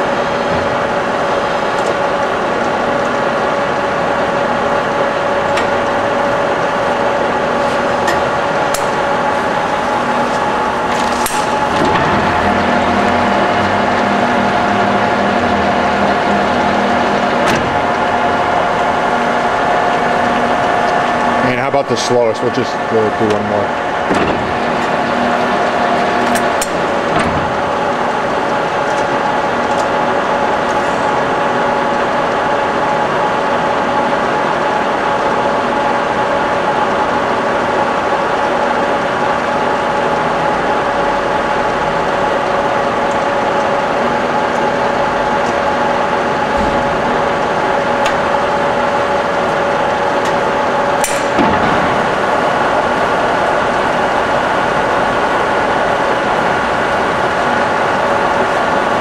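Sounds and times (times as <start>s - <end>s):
lathe running with mechanical whine: 0.0s - 59.0s.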